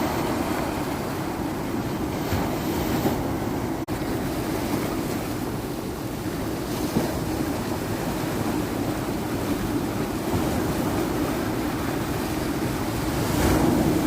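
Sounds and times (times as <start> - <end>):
ocean surf washing: 0.0 - 14.0
wind on microphone: 0.0 - 14.0.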